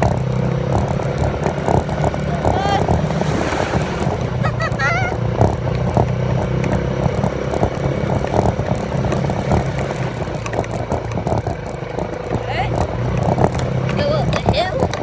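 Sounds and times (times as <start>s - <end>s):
knocks and rattles: 0.0s - 15.0s
vehicle engine running: 0.0s - 15.0s.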